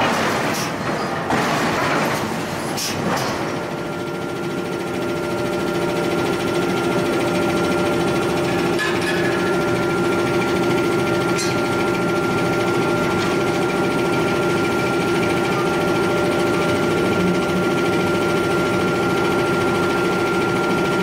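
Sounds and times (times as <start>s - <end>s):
high machine whine: 3.6s - 21.0s.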